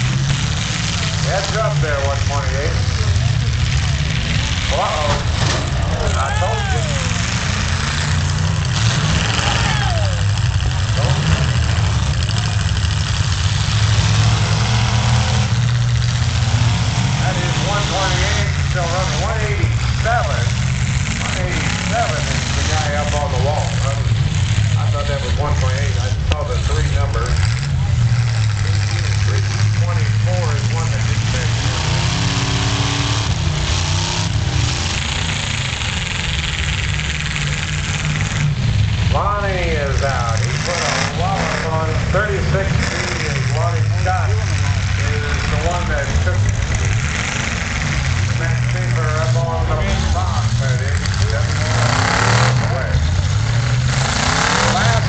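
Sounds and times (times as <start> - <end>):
truck engines rumbling: 0.0 - 55.0.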